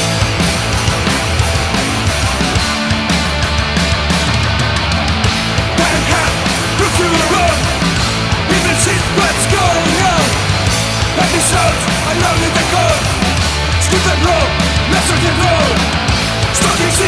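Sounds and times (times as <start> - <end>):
electric guitar lead: 0.0 - 17.0
punk rock band playing: 0.0 - 17.0.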